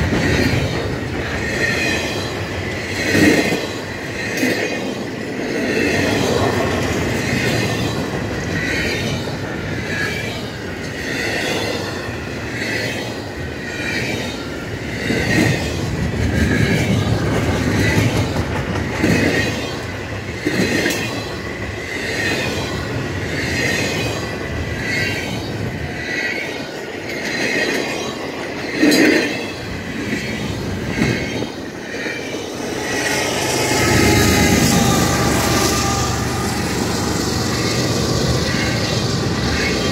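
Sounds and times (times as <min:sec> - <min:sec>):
freight train wheels clacking: 0:00.0 - 0:39.9.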